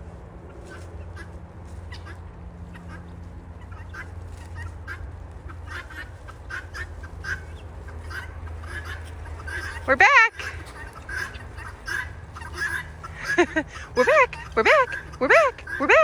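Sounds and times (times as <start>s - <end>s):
low steady rumble: 0.0s - 16.0s
guinea fowl calling: 0.6s - 16.0s.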